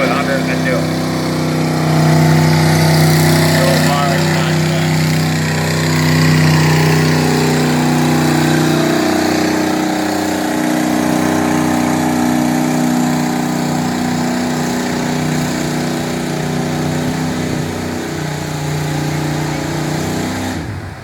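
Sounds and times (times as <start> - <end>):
pickup truck engine running hard: 0.0 - 21.0.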